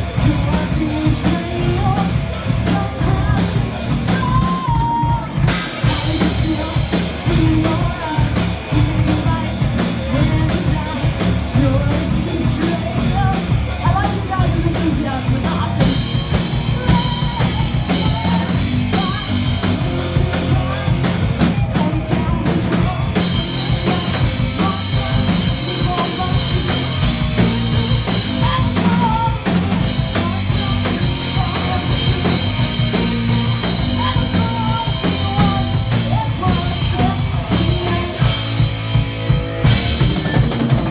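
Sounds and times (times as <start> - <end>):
busy drum kit: 0.0 - 40.9
metal band playing loudly: 0.0 - 40.9.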